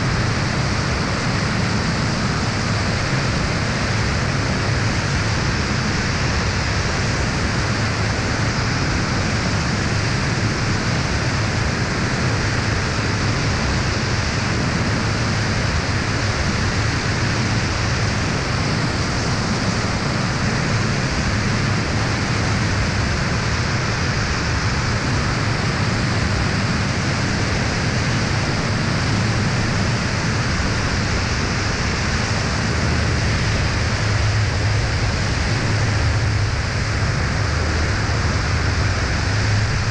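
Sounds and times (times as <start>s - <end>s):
aircraft engine droning: 0.0s - 39.9s
wind rushing over camera: 0.0s - 39.9s.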